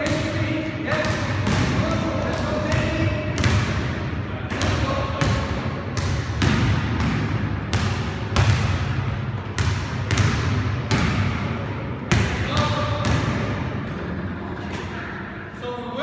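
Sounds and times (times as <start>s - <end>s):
basketballs bouncing on gym floor: 0.0s - 14.2s.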